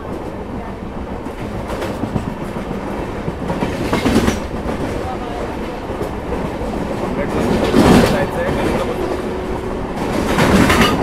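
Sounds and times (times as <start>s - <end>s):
train wheels clickety-clack on track: 0.0s - 11.0s.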